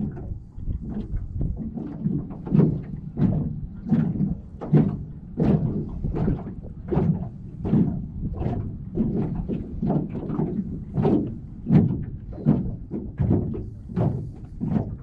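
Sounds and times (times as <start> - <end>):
waves slapping boat hull: 0.0 - 15.0.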